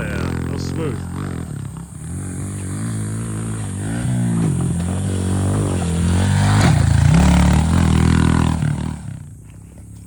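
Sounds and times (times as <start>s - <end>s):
motorbike engine revving: 0.0s - 10.0s.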